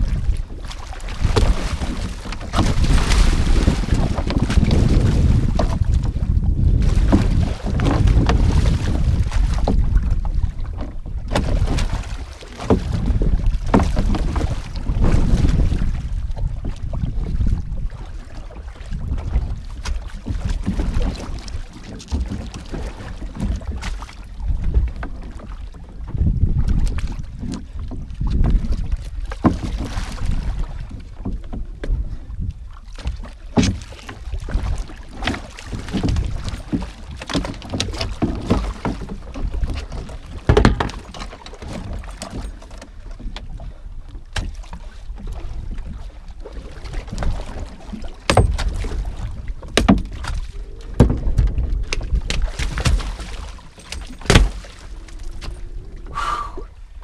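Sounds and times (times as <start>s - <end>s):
knocks and splashes: 0.0s - 55.7s
water sloshing against boat hull: 0.0s - 57.0s
wind rumbling on microphone: 0.0s - 57.0s.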